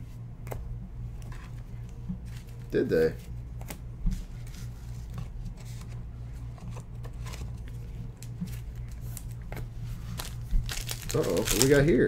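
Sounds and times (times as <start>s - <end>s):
steady low hum: 0.0s - 12.0s
trading cards rustling: 2.2s - 12.0s.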